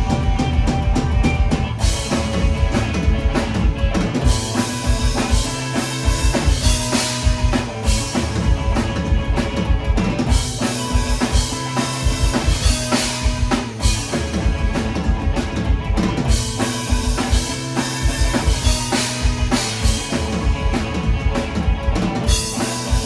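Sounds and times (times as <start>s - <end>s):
drum kit fast beat: 0.0s - 23.0s.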